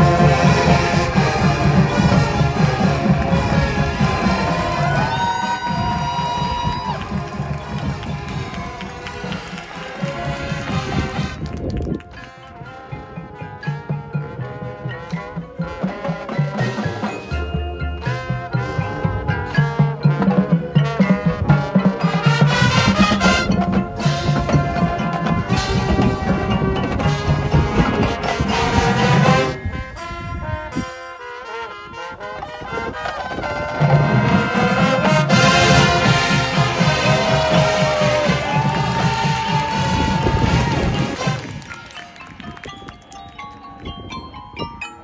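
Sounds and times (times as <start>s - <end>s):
marching band playing: 0.0s - 44.2s.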